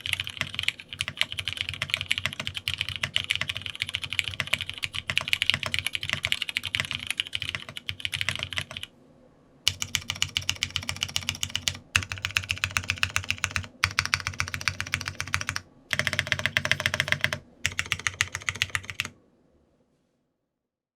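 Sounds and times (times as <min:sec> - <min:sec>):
fast typing on mechanical keyboard: 0:00.0 - 0:08.9, 0:09.7 - 0:19.1.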